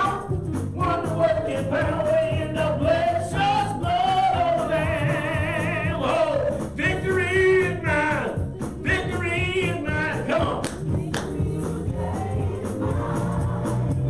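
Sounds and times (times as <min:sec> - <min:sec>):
gospel singing with vibrato: 0:00.0 - 0:14.0
low musical backing: 0:00.0 - 0:14.0.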